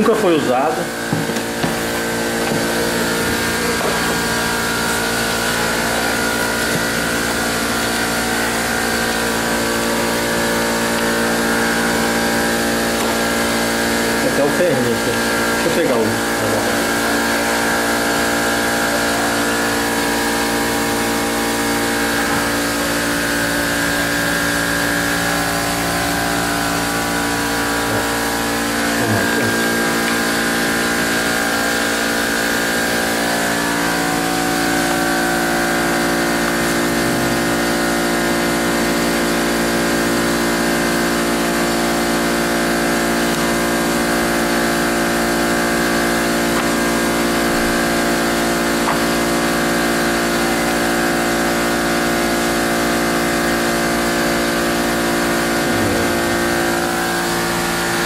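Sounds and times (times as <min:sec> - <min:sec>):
machine drone: 0:00.0 - 0:58.0.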